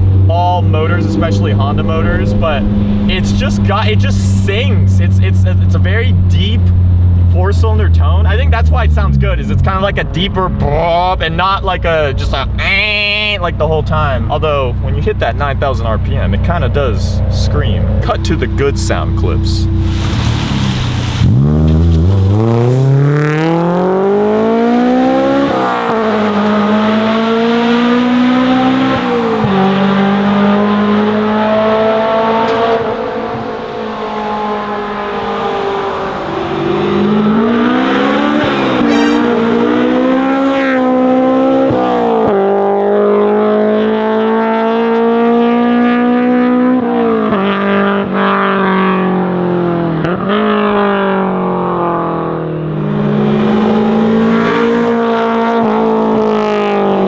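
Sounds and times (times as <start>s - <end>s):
car engine revving through gears: 0.0s - 12.8s, 16.2s - 57.0s.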